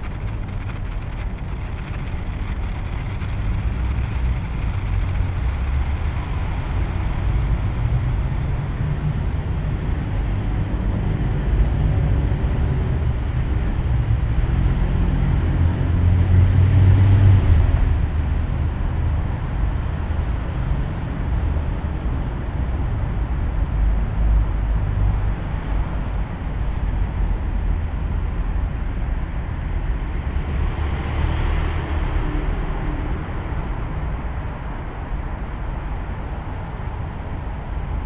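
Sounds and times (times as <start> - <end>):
city street traffic rumble: 0.0 - 38.0.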